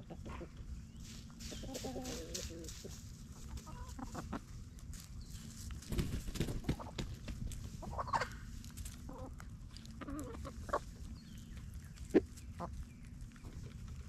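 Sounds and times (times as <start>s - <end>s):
chickens clucking: 0.0s - 14.0s
scratching in leaf litter: 1.0s - 13.9s.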